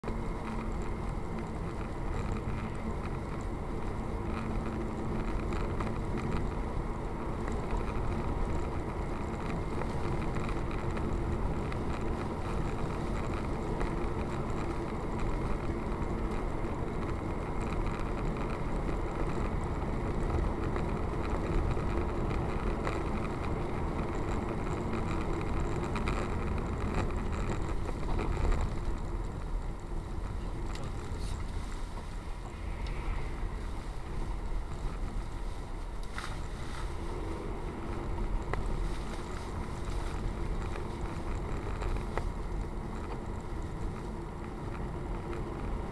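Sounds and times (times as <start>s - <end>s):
car road and engine noise: 0.0s - 45.9s.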